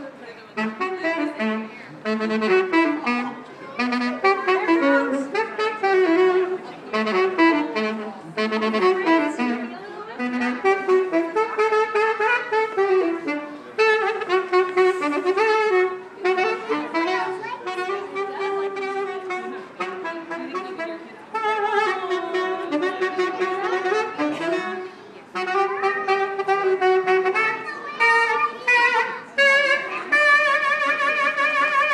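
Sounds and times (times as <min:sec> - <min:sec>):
saxophone melody: 0:00.0 - 0:31.9.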